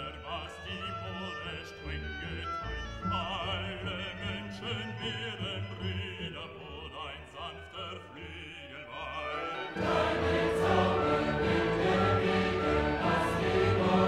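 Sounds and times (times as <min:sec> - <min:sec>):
classical music with singing: 0:00.0 - 0:14.0.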